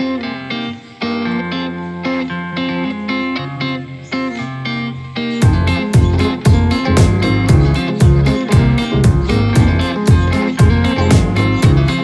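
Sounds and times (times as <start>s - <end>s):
guitar over drum beat: 0.0s - 12.0s.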